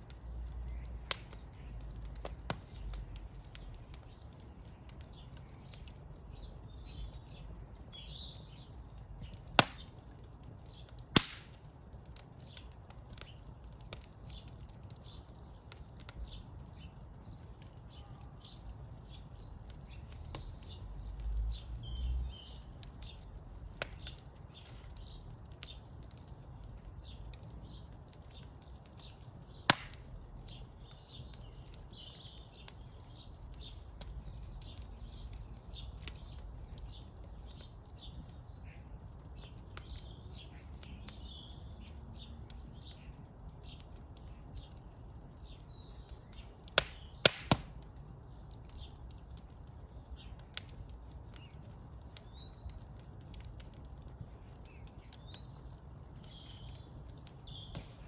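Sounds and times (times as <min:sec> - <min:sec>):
sharp pops of fire: 0:00.0 - 0:58.0
wood fire crackling: 0:00.0 - 0:58.0.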